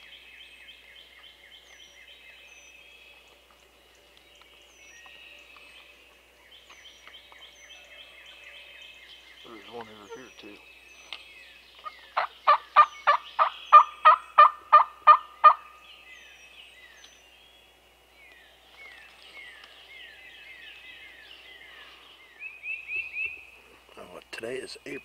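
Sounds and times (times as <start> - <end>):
songbird chirps: 0.0 - 25.0
wild turkey calling: 0.8 - 17.2, 18.8 - 24.2.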